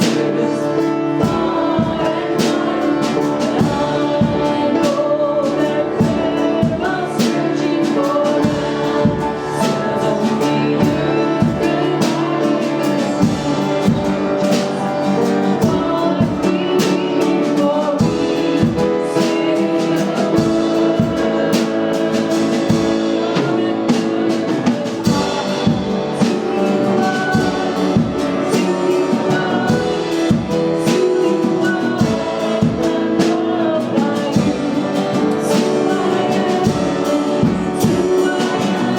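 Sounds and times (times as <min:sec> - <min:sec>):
drum kit steady beat: 0:00.0 - 0:38.9
singing: 0:00.0 - 0:38.9
sustained instrumental chords: 0:00.0 - 0:38.9.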